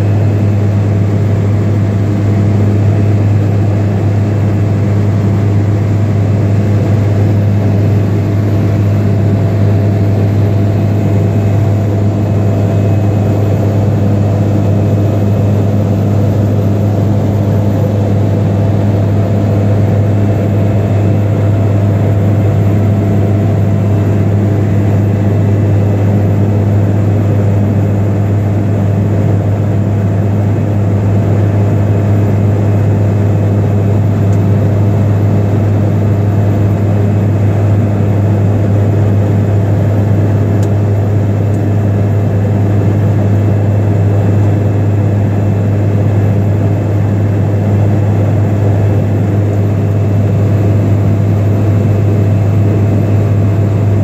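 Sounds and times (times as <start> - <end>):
airplane engine drone in cabin: 0.0 - 54.0.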